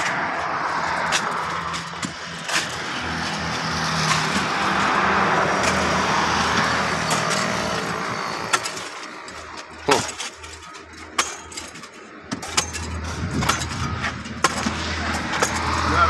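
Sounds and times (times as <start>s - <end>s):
motor vehicle engine hum: 0.0s - 16.0s
pickaxes and shovels striking soil: 0.0s - 16.0s.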